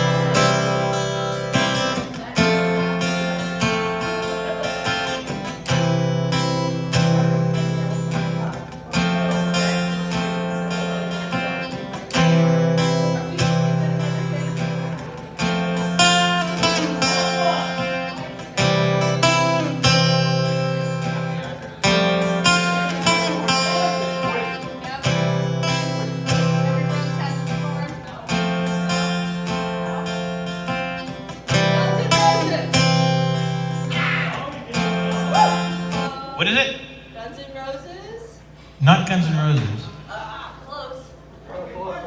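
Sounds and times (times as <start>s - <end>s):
acoustic guitar strumming chords: 0.0s - 37.8s, 38.4s - 40.1s.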